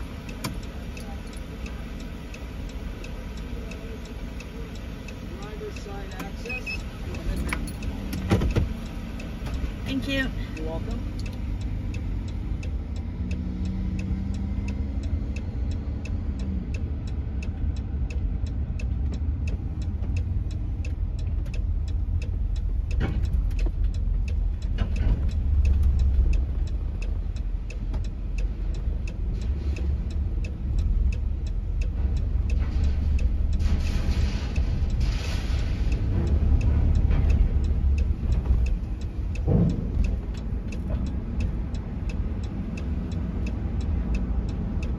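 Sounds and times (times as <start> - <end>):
vehicle engine and road rumble: 0.0 - 44.9.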